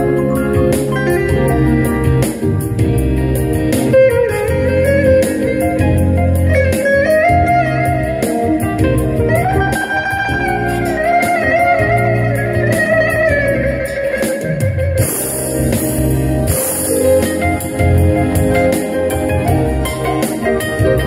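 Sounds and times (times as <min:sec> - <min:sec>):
electric lute melody: 0:00.0 - 0:21.0
keyboard bass and drums backing: 0:00.0 - 0:21.0.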